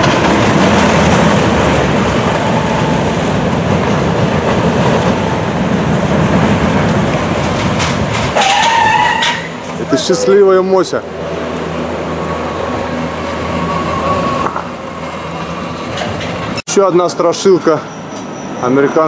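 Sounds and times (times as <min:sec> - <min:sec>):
roller coaster wheels rumbling: 0:00.0 - 0:19.0.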